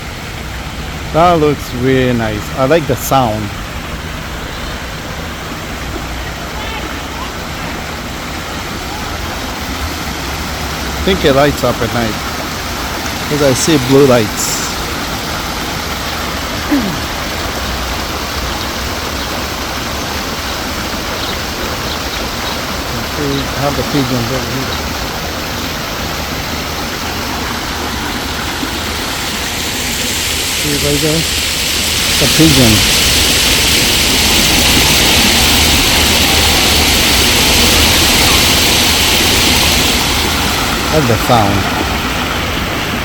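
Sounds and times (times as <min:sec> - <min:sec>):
water fountain splashing: 0:00.0 - 0:43.0.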